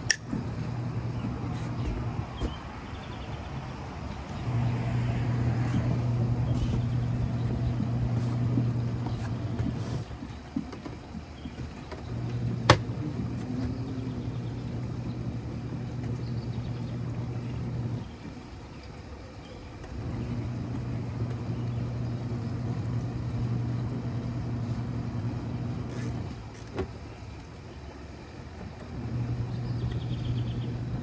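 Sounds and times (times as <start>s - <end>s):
washing machine motor humming: 0.0s - 31.0s.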